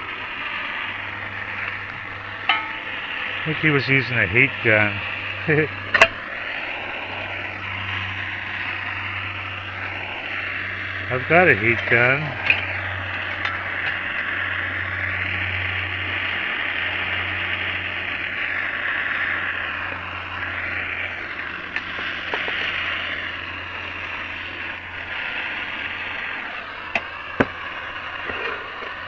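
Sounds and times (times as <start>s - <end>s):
heat gun fan hissing: 0.0s - 29.0s.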